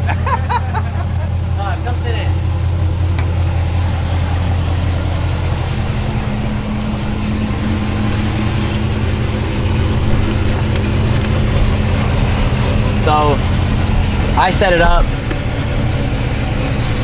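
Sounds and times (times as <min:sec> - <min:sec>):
car engine deep drone: 0:00.0 - 0:17.0
higher steady hum: 0:00.0 - 0:17.0.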